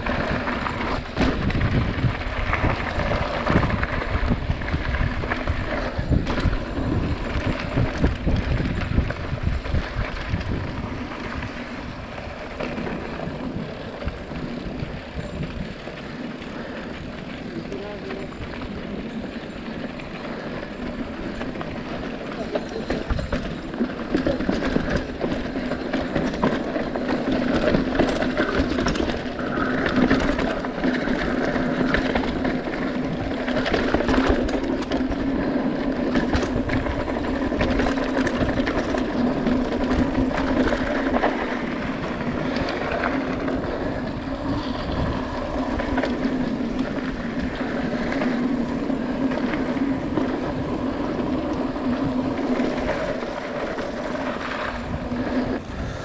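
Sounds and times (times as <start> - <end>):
bike rattling and knocking: 0.0 - 56.0
tyre and wind rumble: 0.0 - 56.0.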